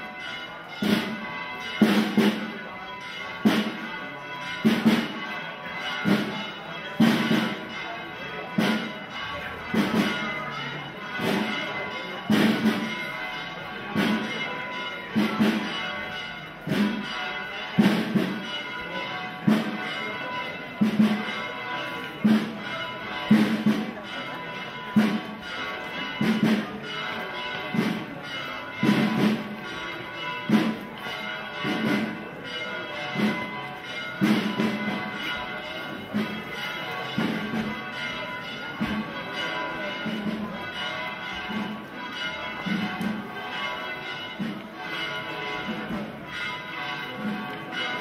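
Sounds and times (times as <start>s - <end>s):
church bells pealing: 0.0s - 48.0s.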